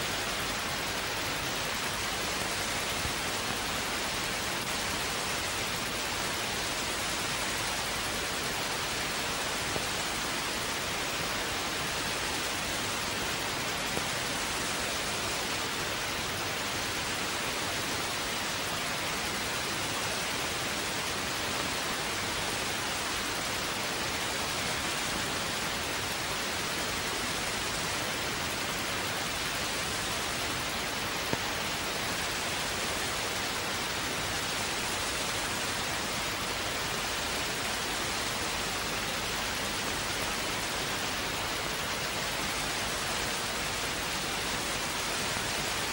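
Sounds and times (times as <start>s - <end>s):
television channel hiss: 0.0s - 45.9s.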